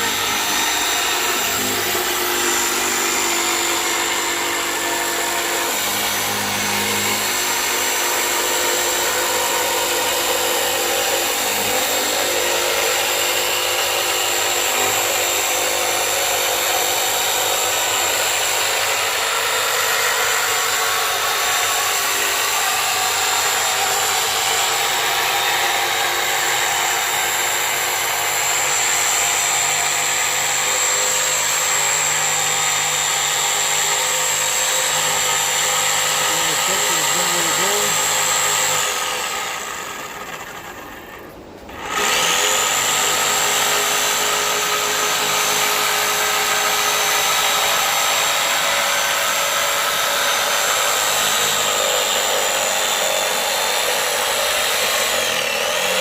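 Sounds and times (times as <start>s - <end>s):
power tool cutting with whine: 0.0s - 56.0s.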